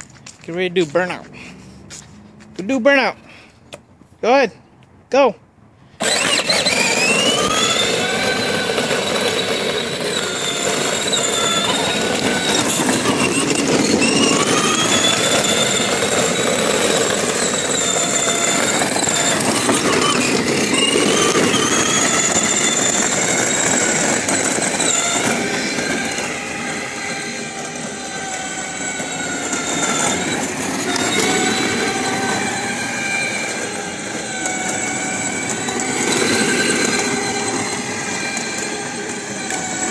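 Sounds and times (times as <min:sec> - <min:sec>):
plastic wheels rolling on asphalt: 0:00.0 - 0:04.1, 0:05.9 - 0:39.9
electric toy car motors whining: 0:05.9 - 0:39.9.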